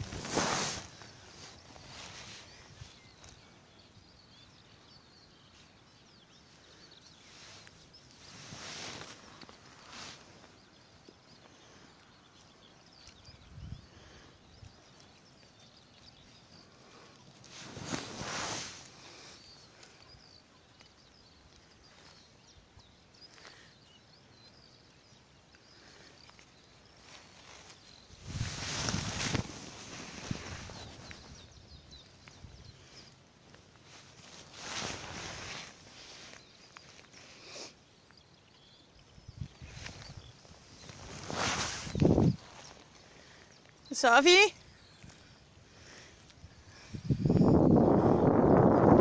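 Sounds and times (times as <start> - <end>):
distant birds chirping: 0.0 - 49.0
dry grass rustling: 0.0 - 49.0.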